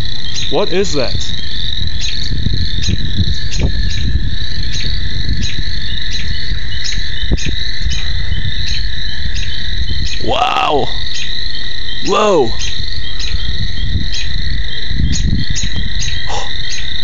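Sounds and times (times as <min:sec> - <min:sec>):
frogs or insects trilling: 0:00.0 - 0:17.0.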